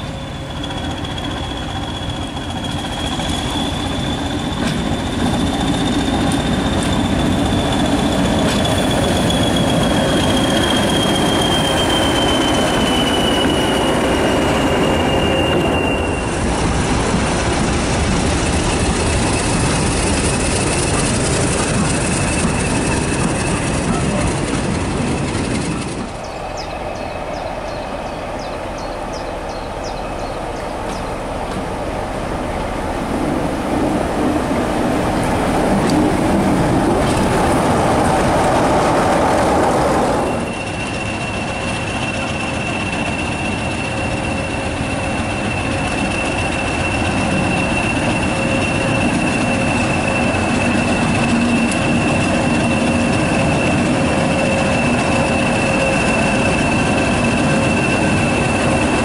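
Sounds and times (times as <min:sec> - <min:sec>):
diesel locomotive engine: 0:00.0 - 0:59.0
train running at speed: 0:00.0 - 0:59.0
wheel and rail noise: 0:00.0 - 0:59.0.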